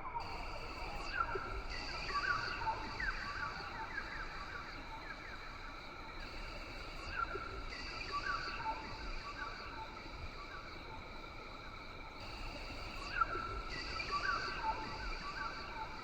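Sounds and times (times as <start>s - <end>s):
insects buzzing: 0.2s - 16.0s.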